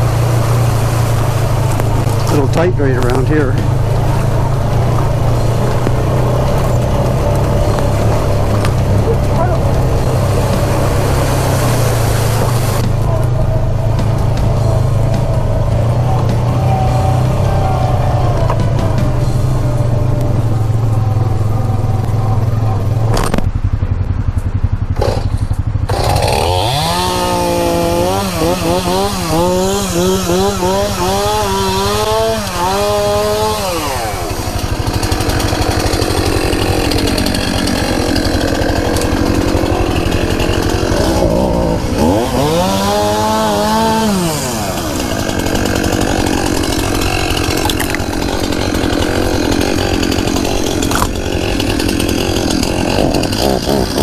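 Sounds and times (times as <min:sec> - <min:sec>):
chainsaw cutting wood: 0:00.0 - 0:22.2, 0:24.9 - 0:54.0.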